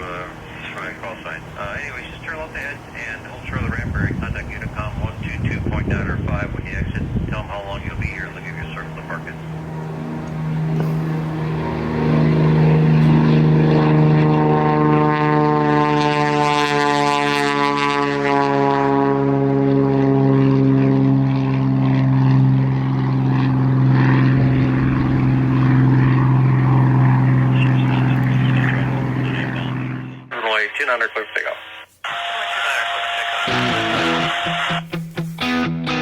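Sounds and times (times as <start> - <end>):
propeller plane engine: 0.0 - 31.0, 31.8 - 36.0.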